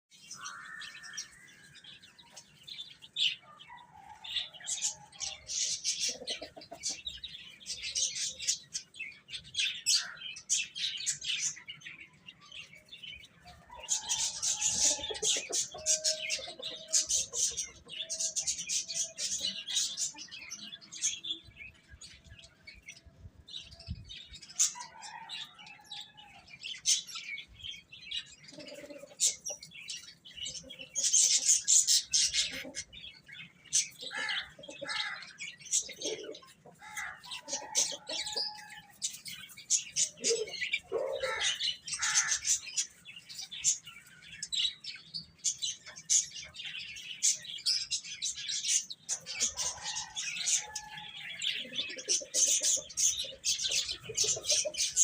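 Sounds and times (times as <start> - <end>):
baby chicks peeping: 0.1 - 55.0.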